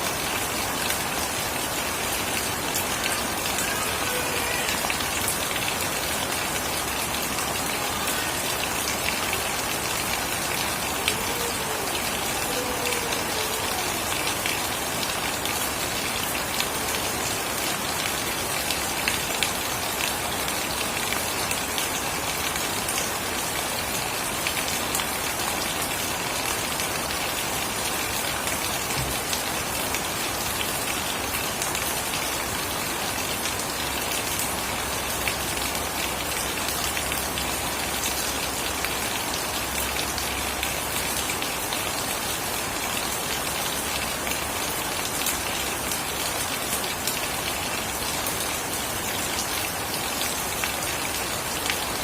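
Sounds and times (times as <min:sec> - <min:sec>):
heavy rain pattering: 0:00.0 - 0:52.0.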